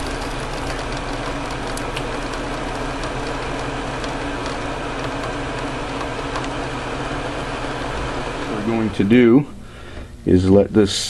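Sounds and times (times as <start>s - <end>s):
exhaust fan whirring hum: 0.0s - 11.0s.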